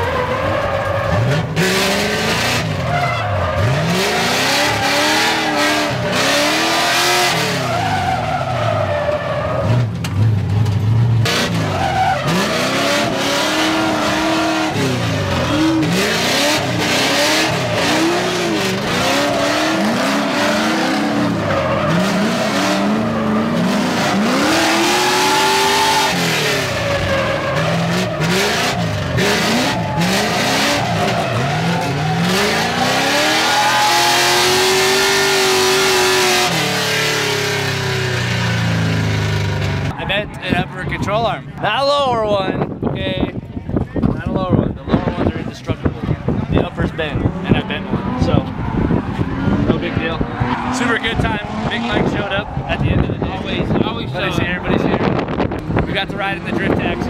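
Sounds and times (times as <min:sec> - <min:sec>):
car engine revving: 0:00.0 - 0:41.8, 0:44.8 - 0:57.0.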